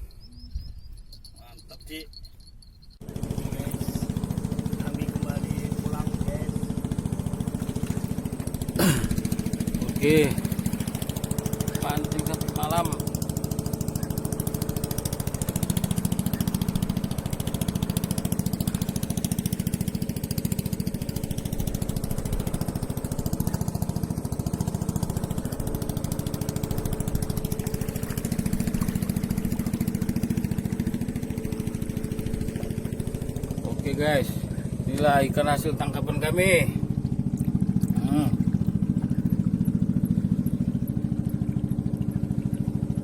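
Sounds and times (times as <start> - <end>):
small engine running: 2.2 - 43.0.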